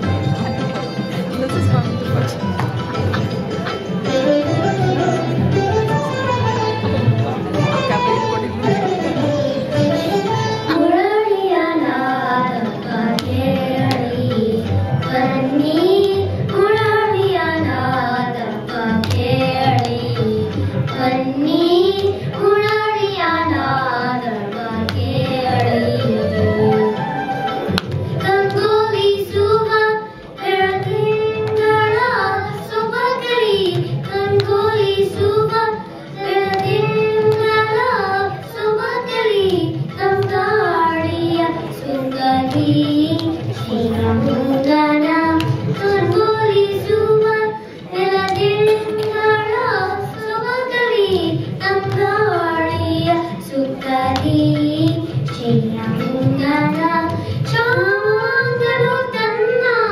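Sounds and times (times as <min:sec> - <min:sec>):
girls singing: 0:10.7 - 0:27.1, 0:28.2 - 0:59.9.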